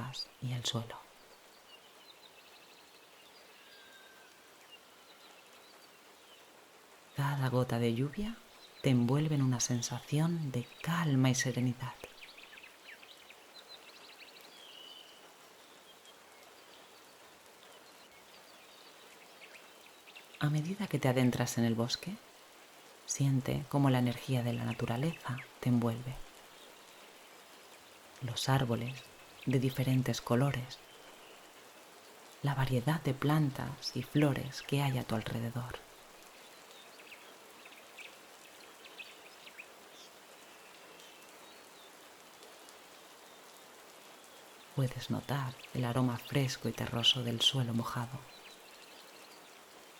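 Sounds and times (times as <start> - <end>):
birds chirping: 0.0 - 49.9
soft rain: 0.0 - 49.9.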